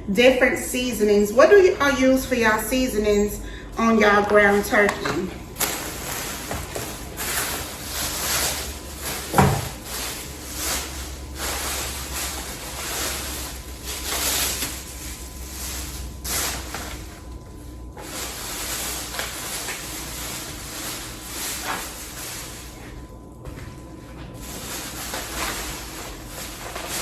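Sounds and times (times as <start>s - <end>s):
packaging rustling: 4.3s - 27.0s.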